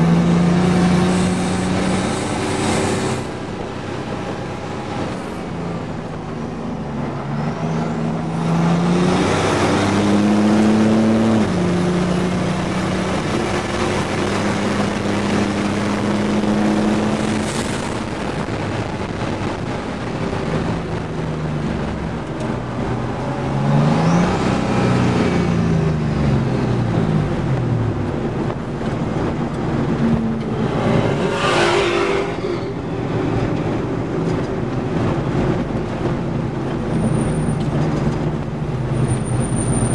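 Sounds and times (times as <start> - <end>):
turbocharged engine revving: 0.0 - 3.9, 7.0 - 39.9
wind and road noise: 0.0 - 39.9.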